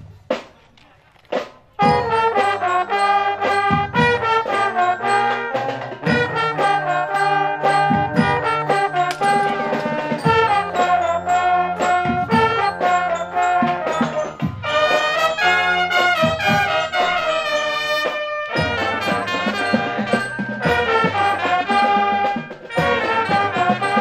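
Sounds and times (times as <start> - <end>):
marching drum beats: 0.0 - 24.0
brass melody: 1.8 - 24.0.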